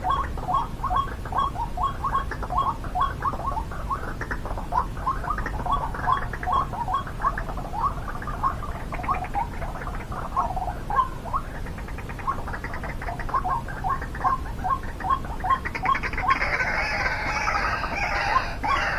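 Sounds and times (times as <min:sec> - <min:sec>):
bird calling with croaking notes: 0:00.0 - 0:18.9.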